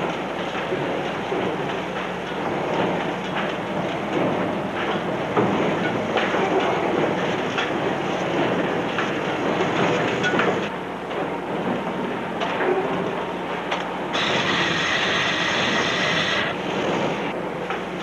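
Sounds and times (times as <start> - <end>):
factory machinery clattering: 0.0 - 18.0.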